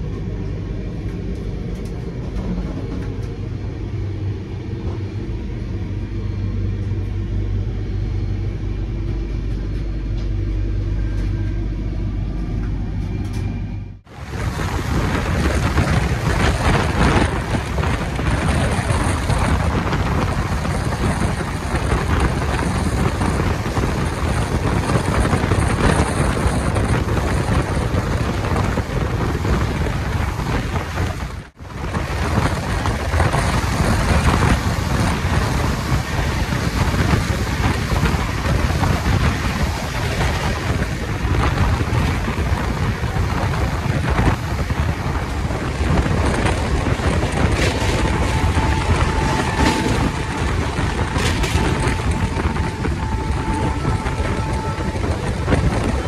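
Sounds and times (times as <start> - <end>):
train rushing at speed: 0.0 - 56.0.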